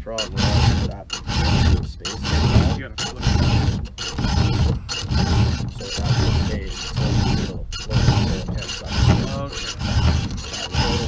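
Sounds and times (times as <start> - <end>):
file rasping on chainsaw chain: 0.0 - 11.0.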